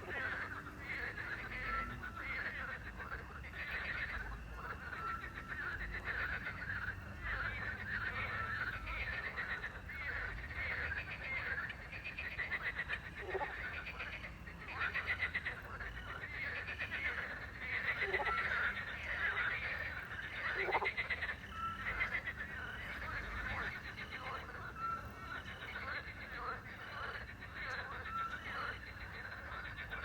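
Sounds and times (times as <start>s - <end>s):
crickets chirping: 0.0s - 30.0s
frogs croaking: 0.0s - 30.0s.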